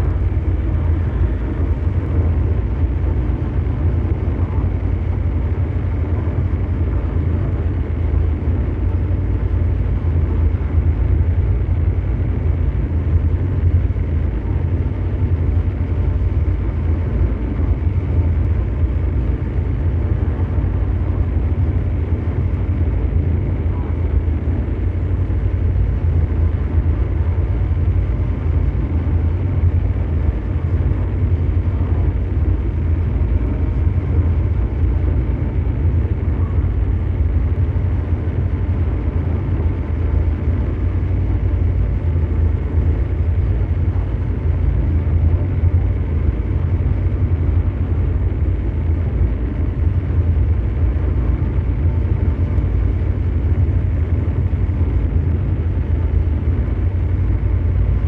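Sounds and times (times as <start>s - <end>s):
deep mechanical drone: 0.0s - 58.0s.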